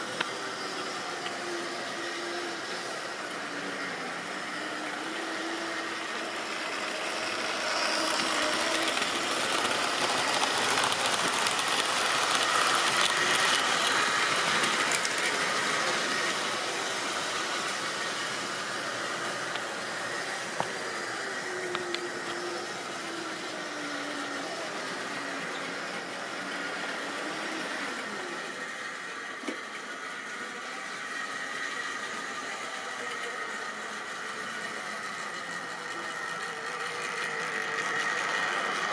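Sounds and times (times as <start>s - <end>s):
model train motors whirring: 0.0s - 38.9s.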